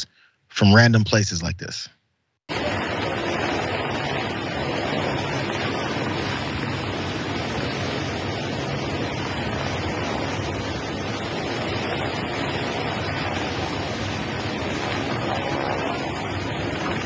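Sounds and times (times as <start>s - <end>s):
helicopter hovering: 2.5s - 17.0s.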